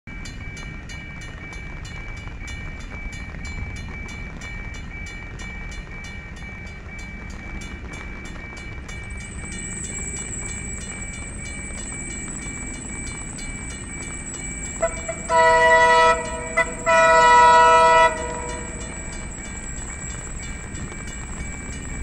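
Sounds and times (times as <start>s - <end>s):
train rumble: 0.1s - 22.0s
high steady whine: 0.2s - 22.0s
level crossing bell ringing: 0.2s - 22.0s.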